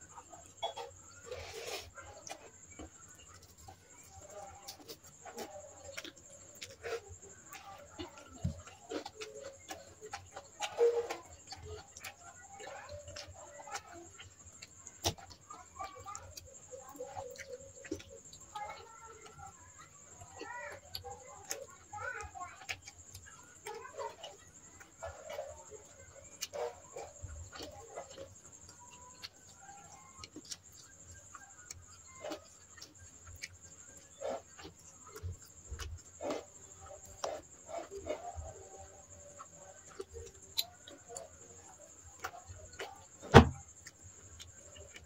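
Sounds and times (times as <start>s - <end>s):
close-up chewing: 0.0s - 45.0s.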